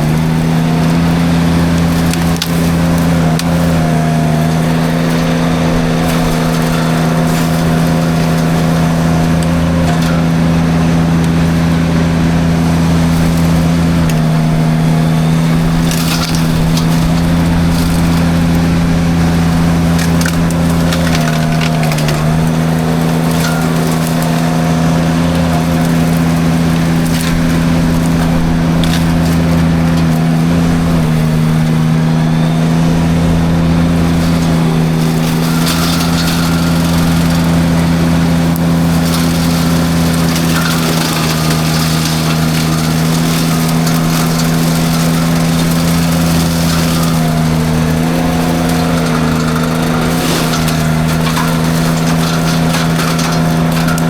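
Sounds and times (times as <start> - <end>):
mulcher drum running: 0.0 - 54.0
wood cracking and splintering: 0.0 - 54.0.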